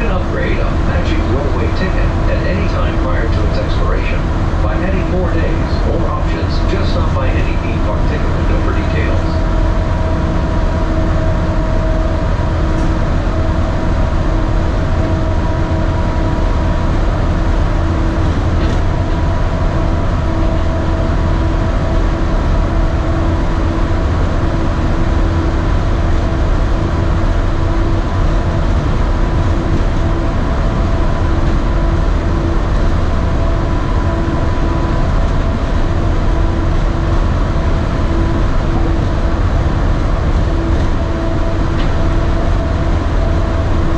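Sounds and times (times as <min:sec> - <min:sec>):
monorail rumbling: 0:00.0 - 0:43.9.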